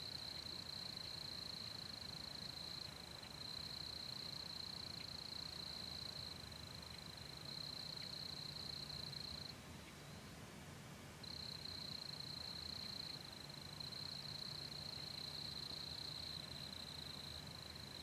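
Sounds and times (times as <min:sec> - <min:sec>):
night insects trilling: 0:00.0 - 0:09.5, 0:11.2 - 0:18.0.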